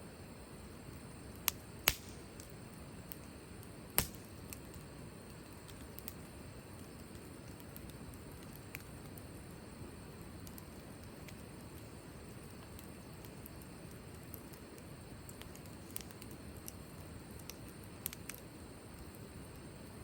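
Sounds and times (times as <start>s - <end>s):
wood fire crackling: 0.2s - 20.0s
sharp fire pops: 1.3s - 9.2s, 10.4s - 19.7s.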